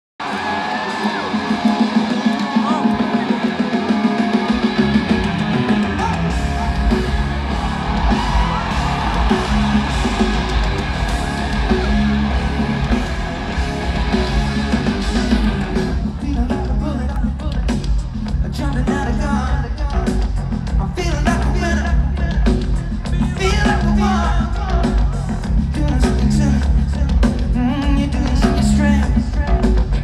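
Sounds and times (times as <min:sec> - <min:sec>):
bass and drums: 0:00.2 - 0:30.0
electric guitar: 0:00.2 - 0:30.0.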